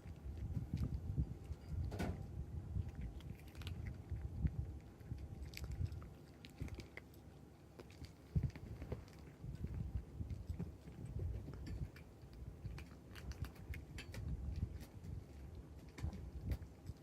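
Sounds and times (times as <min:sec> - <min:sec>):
kitten chewing food: 0:00.0 - 0:17.0.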